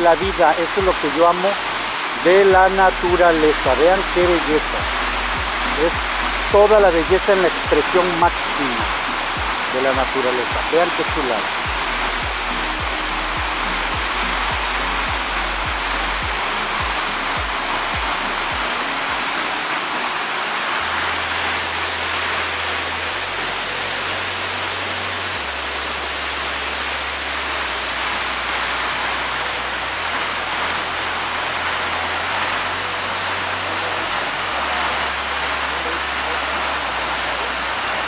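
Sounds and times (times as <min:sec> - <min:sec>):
low background music: 0:00.0 - 0:38.0
waterfall rushing: 0:00.0 - 0:38.0.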